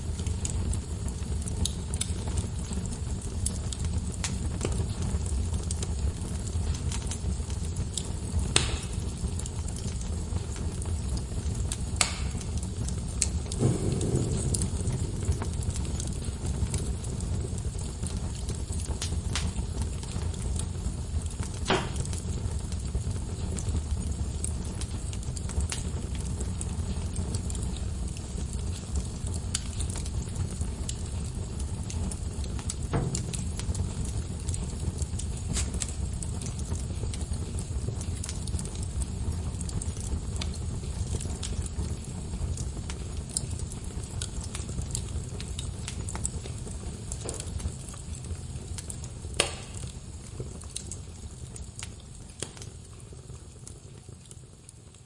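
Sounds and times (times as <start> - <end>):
log fire crackling: 0.0 - 55.0.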